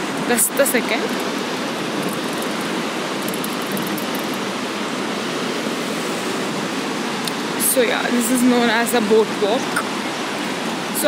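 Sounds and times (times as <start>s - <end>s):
water rushing down waterfall: 0.0s - 11.0s.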